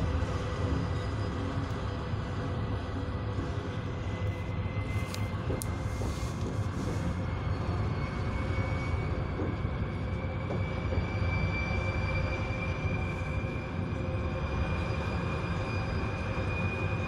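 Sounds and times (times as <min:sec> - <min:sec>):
diesel locomotive engine working hard: 0:00.0 - 0:17.0
train wheels rumbling on rails: 0:00.0 - 0:17.0.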